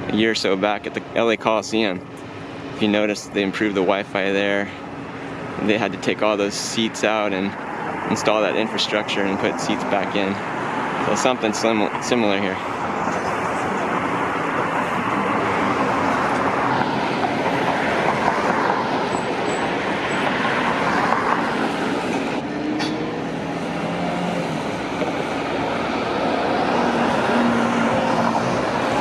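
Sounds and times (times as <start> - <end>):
road traffic noise: 0.0 - 29.0
vehicle running nearby: 0.0 - 29.0.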